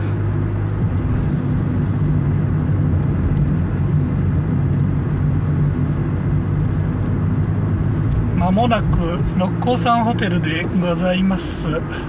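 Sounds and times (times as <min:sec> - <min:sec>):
car engine and exhaust hum: 0:00.0 - 0:12.0
tyre and road noise: 0:00.0 - 0:12.0.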